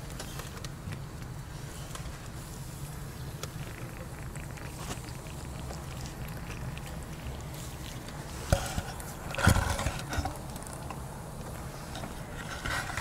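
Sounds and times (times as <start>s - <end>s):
kitten eating: 0.0s - 13.0s
steady low hum: 0.0s - 13.0s.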